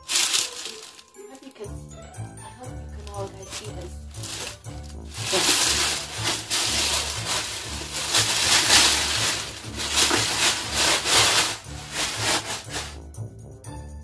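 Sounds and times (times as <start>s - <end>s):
tissue paper rustling: 0.0s - 1.5s, 3.0s - 13.0s
background music: 0.0s - 14.0s.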